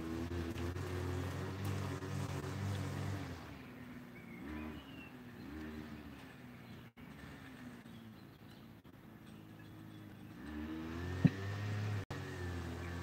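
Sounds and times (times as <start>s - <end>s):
motor engine running: 0.0s - 13.0s.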